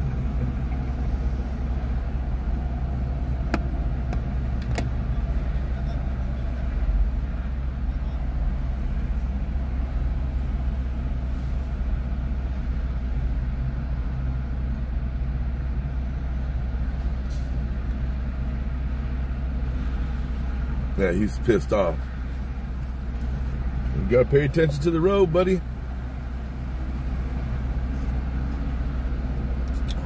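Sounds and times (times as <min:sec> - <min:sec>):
freeway traffic rumble: 0:00.0 - 0:30.0.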